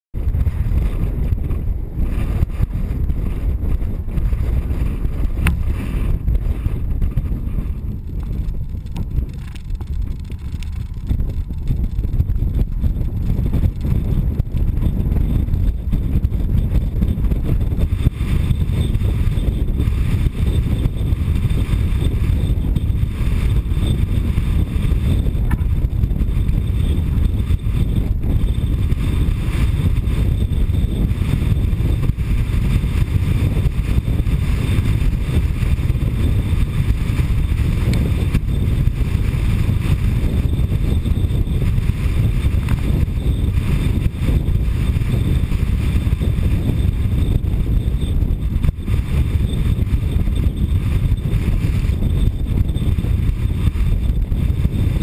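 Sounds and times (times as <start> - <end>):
wind buffeting microphone: 0.1 - 55.0.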